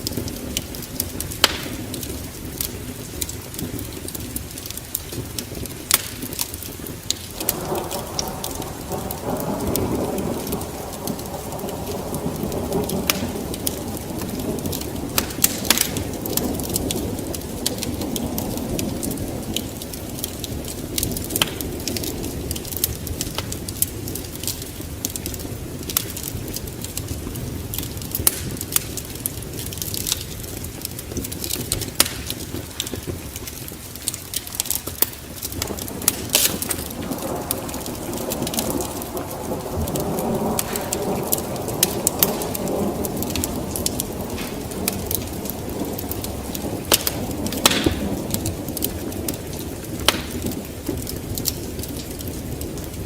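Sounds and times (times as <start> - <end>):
steady rain: 0.0 - 53.0
wood fire crackling: 0.0 - 53.0
thunder rolling: 5.1 - 53.0.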